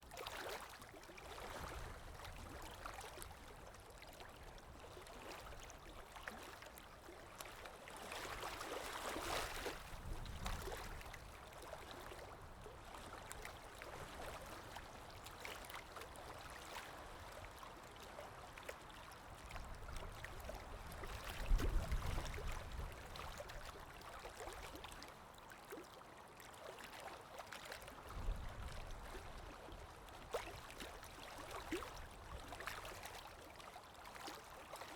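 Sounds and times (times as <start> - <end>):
small waves lapping against shore: 0.0 - 34.9.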